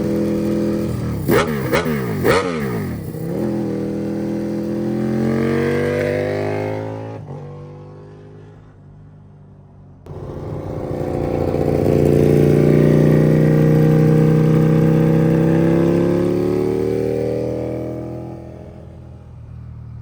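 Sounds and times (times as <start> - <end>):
motorcycle engine revving: 0.0 - 8.8, 10.1 - 20.0.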